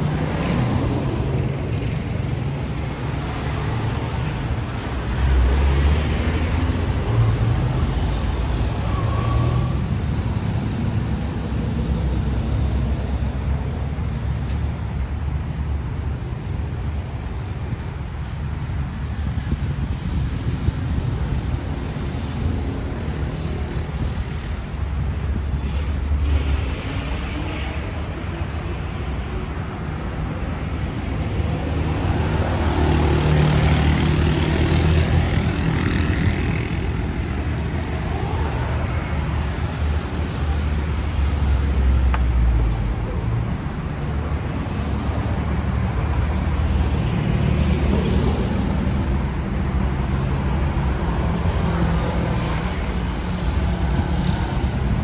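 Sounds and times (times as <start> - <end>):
cars driving past: 0.0 - 13.2, 21.3 - 55.0.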